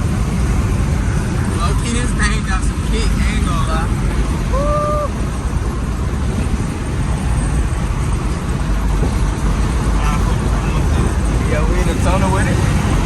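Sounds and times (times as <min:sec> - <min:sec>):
car rumble and road noise: 0:00.0 - 0:13.0.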